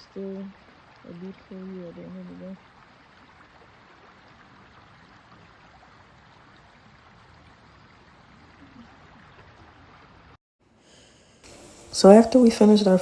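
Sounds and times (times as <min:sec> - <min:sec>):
water rushing: 0:00.0 - 0:10.4, 0:11.0 - 0:13.0.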